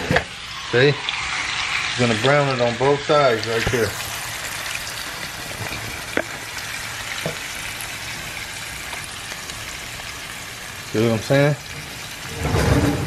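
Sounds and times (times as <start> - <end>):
meat sizzling in frying pan: 0.0 - 13.0
grease popping: 1.0 - 13.0.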